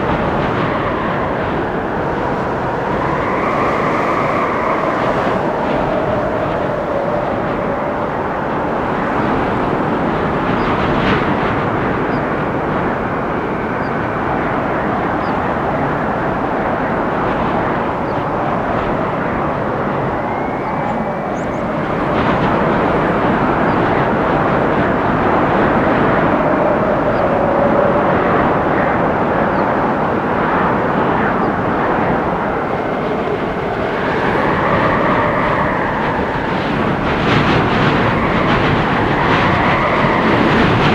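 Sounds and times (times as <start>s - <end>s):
strong wind through trees: 0.0s - 40.9s
wind whistling: 0.0s - 40.9s.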